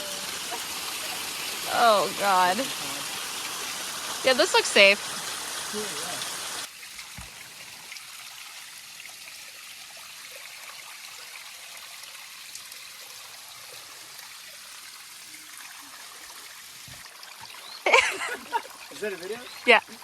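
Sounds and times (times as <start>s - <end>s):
water streaming over rocks: 0.0s - 20.0s.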